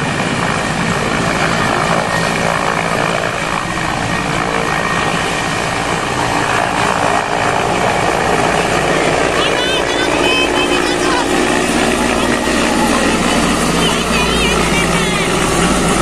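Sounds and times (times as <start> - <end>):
helicopter rotor with high whine: 0.0 - 16.0.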